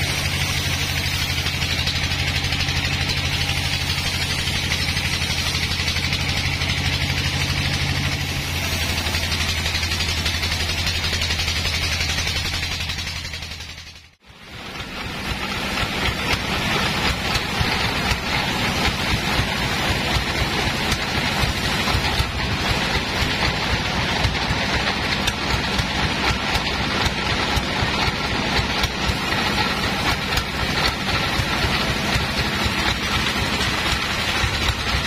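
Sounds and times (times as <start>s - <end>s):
bandsaw running: 0.0s - 35.0s.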